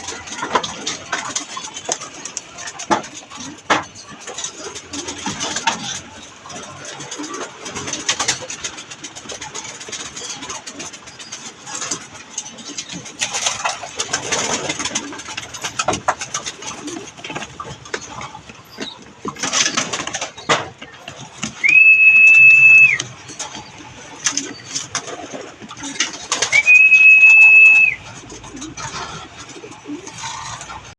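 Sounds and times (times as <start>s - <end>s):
pigeons cooing: 0.0s - 30.9s
rustling and clicking: 0.0s - 30.9s.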